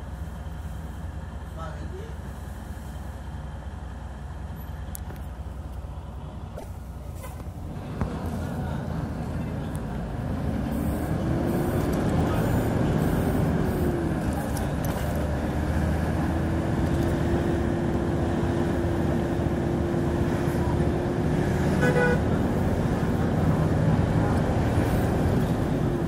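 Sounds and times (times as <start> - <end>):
bus engine whining under load: 0.0 - 26.0.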